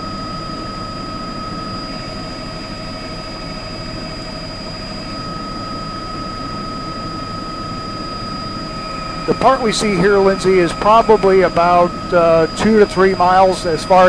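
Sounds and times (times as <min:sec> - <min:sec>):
helicopter engine and rotor drone: 0:00.0 - 0:14.0
high whine: 0:00.0 - 0:14.0.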